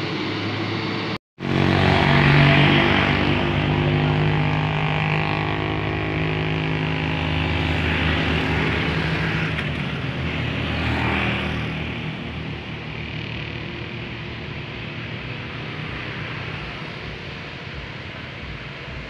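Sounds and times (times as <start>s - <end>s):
diesel bus engine drone: 0.0s - 19.0s
road noise: 0.0s - 19.0s.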